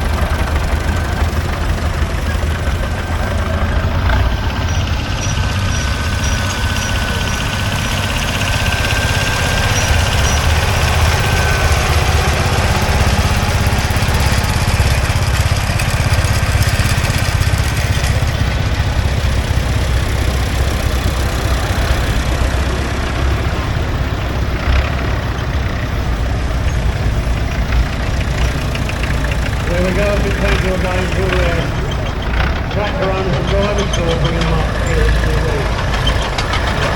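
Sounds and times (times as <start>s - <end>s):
tractor engines running: 0.0s - 36.9s.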